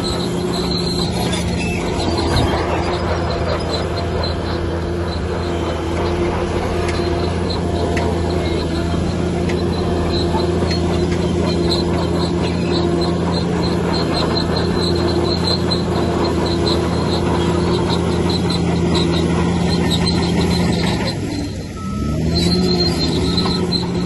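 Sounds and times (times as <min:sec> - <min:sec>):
diesel engine running: 0:00.0 - 0:24.0
short high squeaks: 0:00.0 - 0:24.0.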